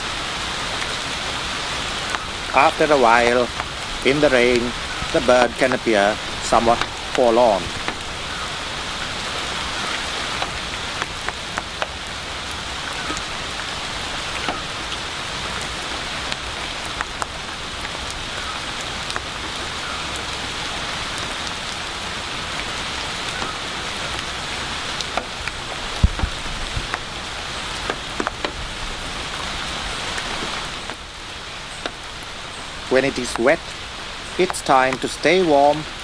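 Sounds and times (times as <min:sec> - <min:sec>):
rain falling on foliage: 0:00.0 - 0:36.0
sharp water drips: 0:00.0 - 0:36.0.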